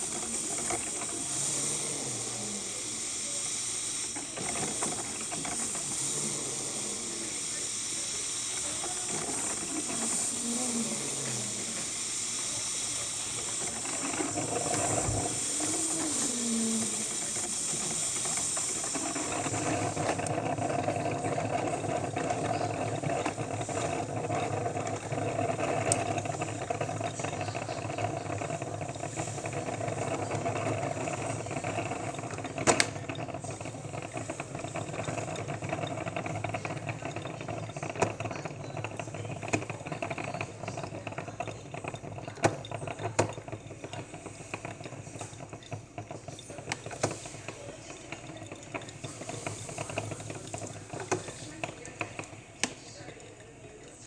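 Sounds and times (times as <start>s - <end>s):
coffee maker brewing: 0.0s - 54.0s
steam hissing: 0.0s - 54.0s.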